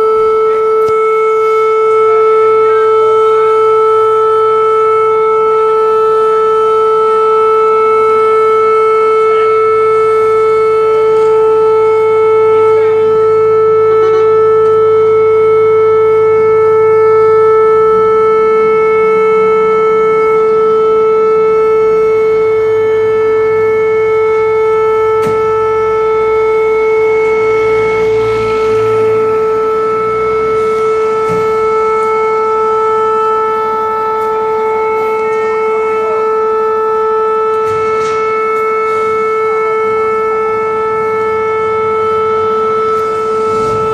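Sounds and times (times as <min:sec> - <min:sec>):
fire alarm siren steady tone: 0:00.0 - 0:43.9.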